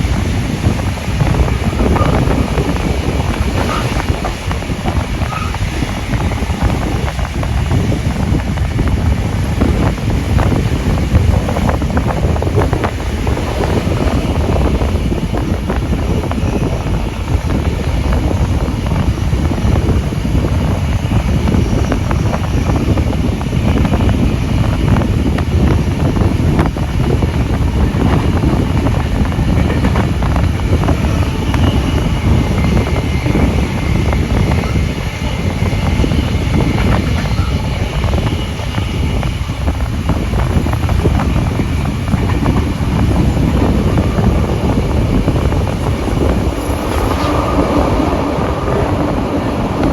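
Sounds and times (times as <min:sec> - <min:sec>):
train rumbling along track: 0:00.0 - 0:49.9
wind buffeting microphone: 0:00.0 - 0:49.9.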